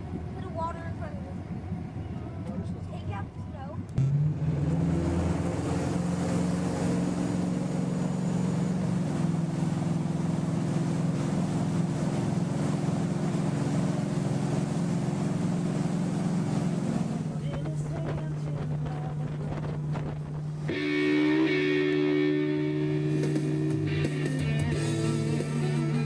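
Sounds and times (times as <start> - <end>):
water and wind noise: 0.0 - 23.2
motorboat engine running: 0.0 - 26.0.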